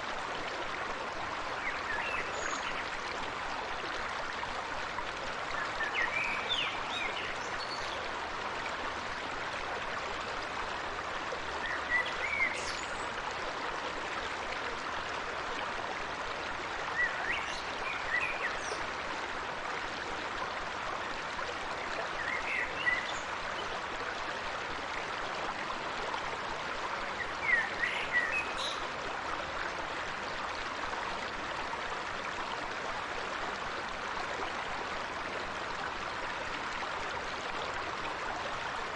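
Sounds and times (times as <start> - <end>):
small stream babbling: 0.0 - 38.9.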